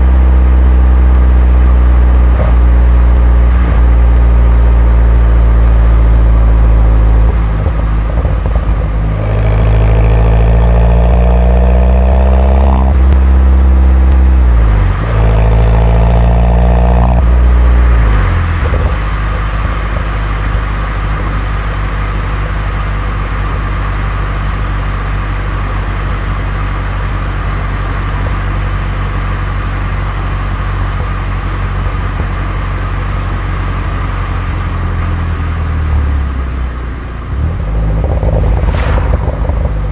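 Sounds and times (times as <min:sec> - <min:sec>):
turbocharged car engine revving: 0:00.0 - 0:39.9.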